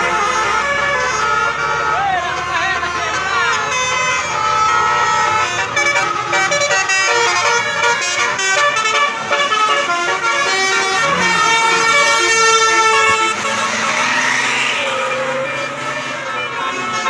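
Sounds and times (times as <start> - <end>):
musical bus horn melody: 0.0 - 17.0.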